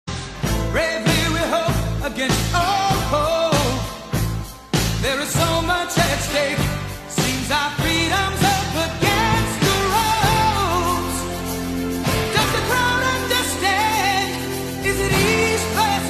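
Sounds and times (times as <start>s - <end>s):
song with vocals drums and bass: 0.1s - 16.0s.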